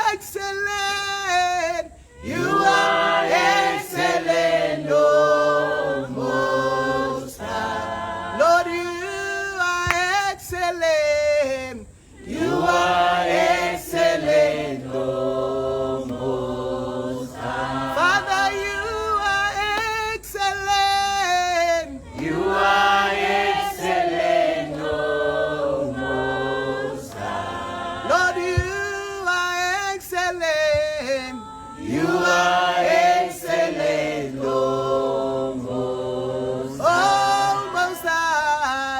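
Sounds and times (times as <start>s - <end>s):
group singing a worship song: 0.0s - 38.9s.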